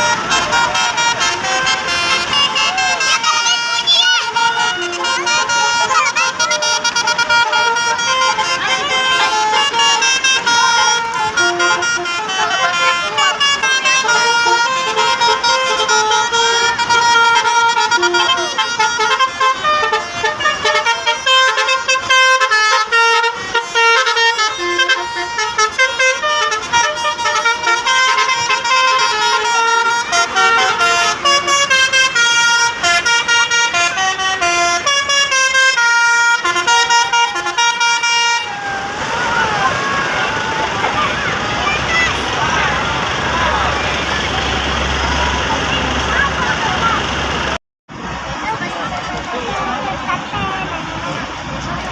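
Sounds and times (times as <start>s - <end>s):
bus air horns playing melodies: 0.0s - 47.6s.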